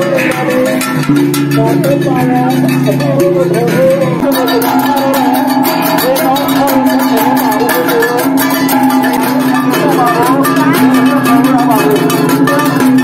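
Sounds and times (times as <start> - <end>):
gong ensemble playing: 0.0 - 13.0.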